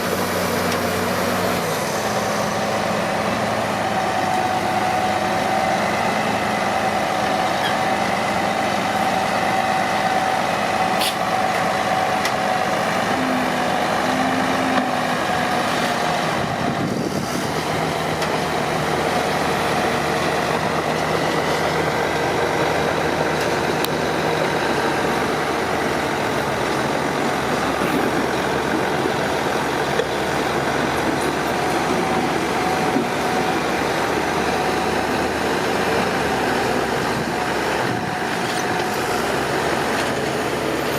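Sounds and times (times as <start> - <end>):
bulldozer diesel engine droning: 0.0 - 40.9
steady whine: 0.0 - 40.9.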